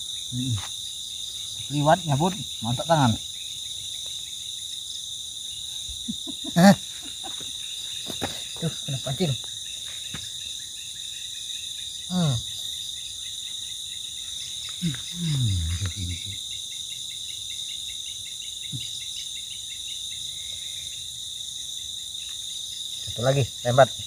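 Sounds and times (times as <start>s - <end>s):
night insects chirping: 0.0s - 24.0s.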